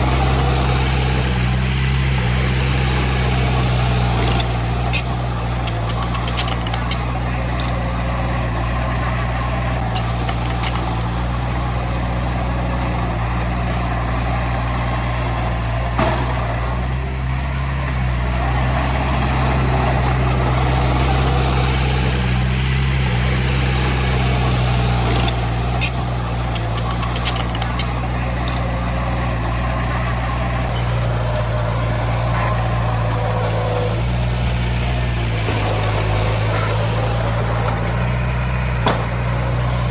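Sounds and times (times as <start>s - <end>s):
short knocks and clatter: 0.0s - 12.0s, 16.0s - 16.5s, 19.5s - 39.6s
heavy diesel engine running: 0.0s - 39.9s.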